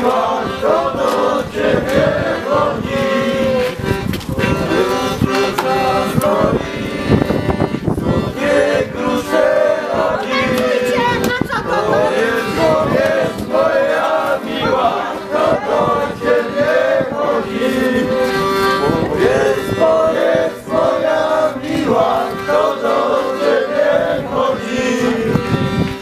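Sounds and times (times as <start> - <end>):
group of voices singing: 0.0 - 26.0.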